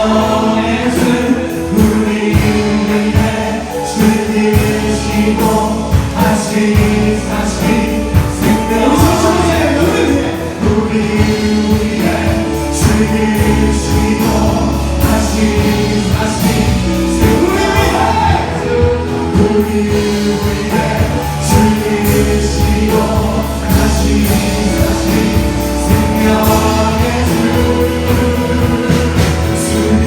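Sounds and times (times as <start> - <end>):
full band playing: 0.0 - 30.0
group singing together: 0.0 - 30.0
steady drum beat: 0.0 - 30.0.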